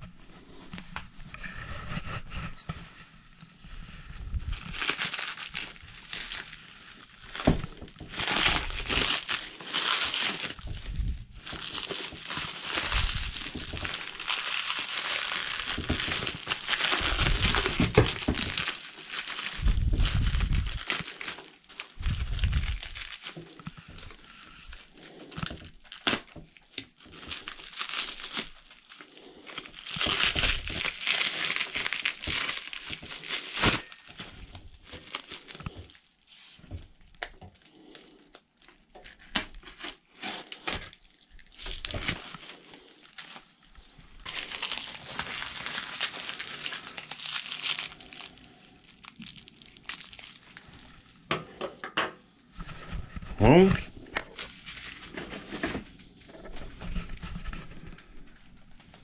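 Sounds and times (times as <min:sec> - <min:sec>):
plastic and cardboard crinkling: 0:00.0 - 0:51.8, 0:52.4 - 0:59.0.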